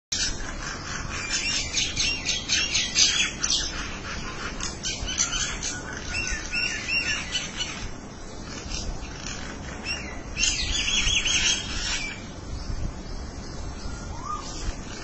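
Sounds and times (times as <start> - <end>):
birds chattering harshly: 0.1 - 15.0
birds whistling: 0.1 - 15.0.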